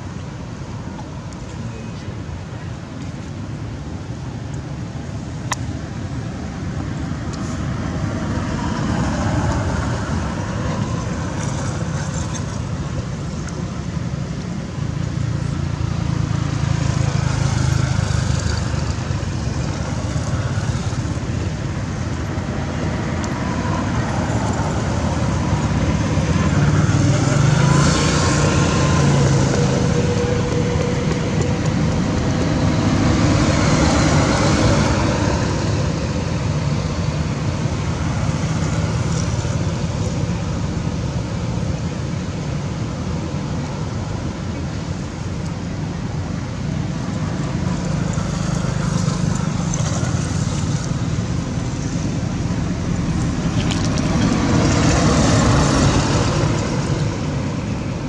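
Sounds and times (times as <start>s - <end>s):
engine whine: 0.0s - 58.0s
road traffic rumble: 0.0s - 58.0s.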